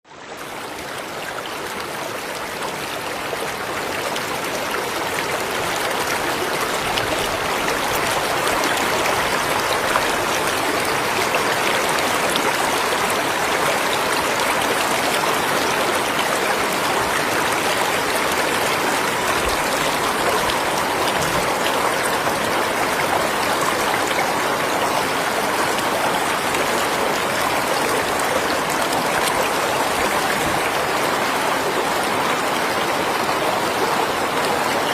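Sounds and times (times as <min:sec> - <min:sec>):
river water rushing and splashing: 0:00.1 - 0:34.9.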